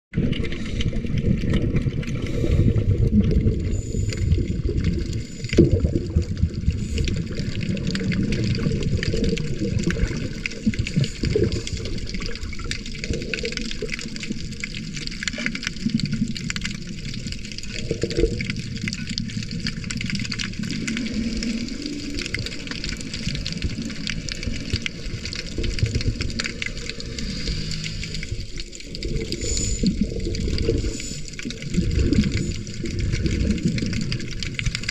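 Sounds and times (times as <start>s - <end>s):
water gurgling and churning: 0.1s - 34.9s.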